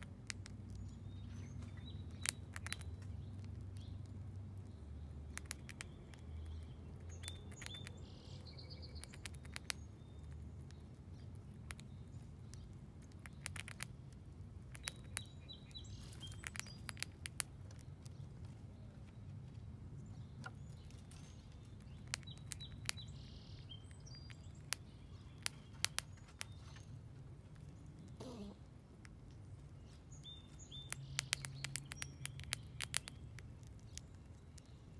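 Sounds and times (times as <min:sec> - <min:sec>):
small birds chirping: 0:00.0 - 0:34.9
squirrel chewing corn: 0:00.0 - 0:34.9.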